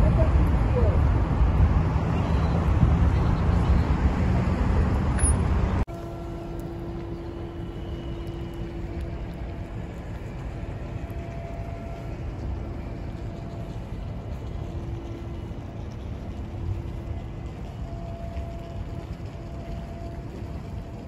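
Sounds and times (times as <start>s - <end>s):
rumble of wind and water: 0.0s - 21.0s
ship machinery humming: 0.0s - 21.0s.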